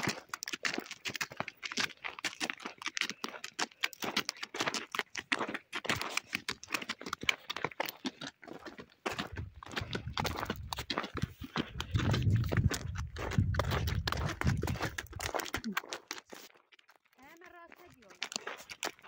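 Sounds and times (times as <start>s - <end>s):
donkey hooves clip-clopping on stones: 0.0s - 19.0s.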